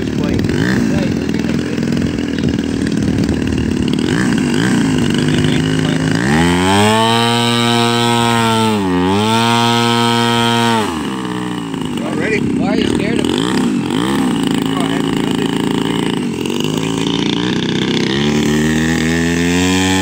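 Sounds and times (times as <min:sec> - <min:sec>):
model plane engine running: 0:00.0 - 0:20.0.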